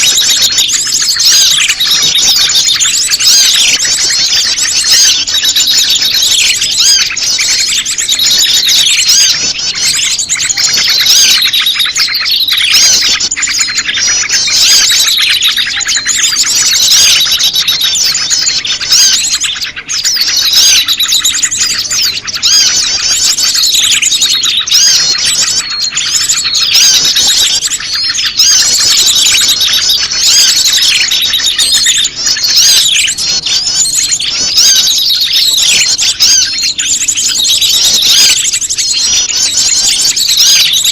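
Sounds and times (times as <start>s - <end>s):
bird calls: 0.0s - 40.9s
chorus of small birds chirping: 0.0s - 40.9s.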